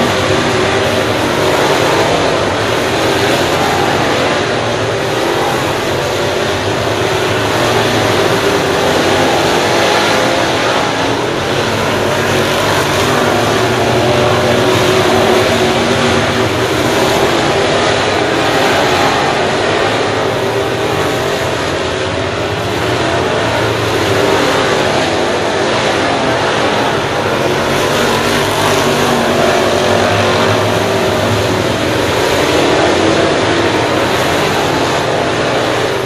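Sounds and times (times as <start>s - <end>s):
race car engines roaring: 0.0s - 36.0s.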